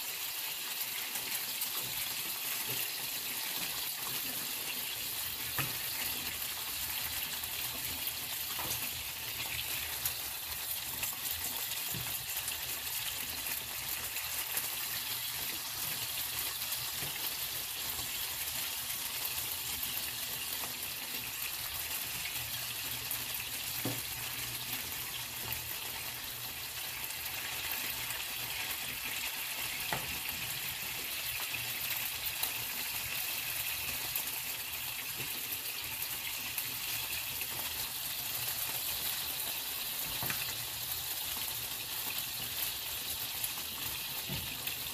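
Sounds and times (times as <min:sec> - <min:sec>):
sausages sizzling in a pan: 0:00.0 - 0:44.9.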